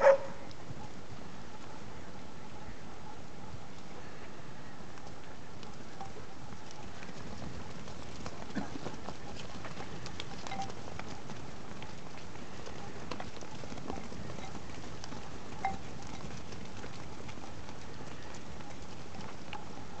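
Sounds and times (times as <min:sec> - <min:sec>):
sheep hooves pattering on dirt: 0:00.0 - 0:20.0.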